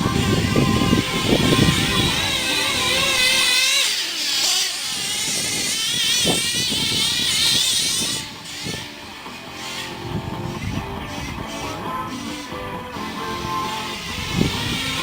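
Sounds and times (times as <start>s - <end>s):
high-pitched nitro engine whine: 0.0s - 15.0s.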